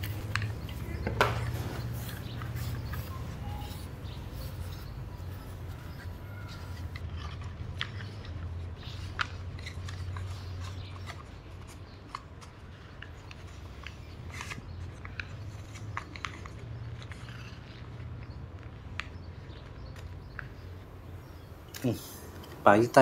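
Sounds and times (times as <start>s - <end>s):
paper rustling and crackling: 0.0s - 20.9s.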